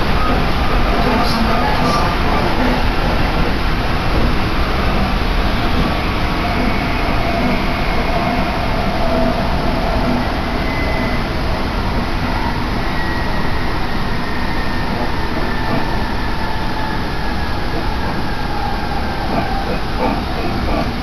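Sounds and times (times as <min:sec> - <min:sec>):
faint high whine: 0:00.0 - 0:19.5
train running rumble: 0:00.0 - 0:21.0.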